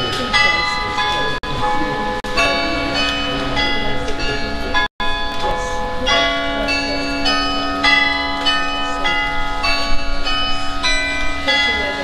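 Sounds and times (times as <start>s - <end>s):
carillon bells melody: 0.0s - 12.0s
low bass bell ringing: 0.0s - 12.0s.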